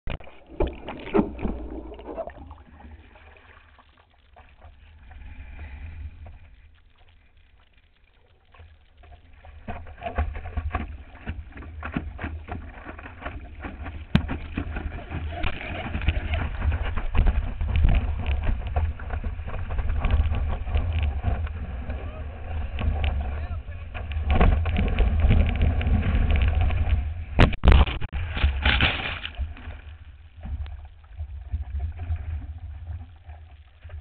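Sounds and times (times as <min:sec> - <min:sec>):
seawater splashing: 0:00.1 - 0:34.0
water buffeting microphone: 0:00.1 - 0:34.0.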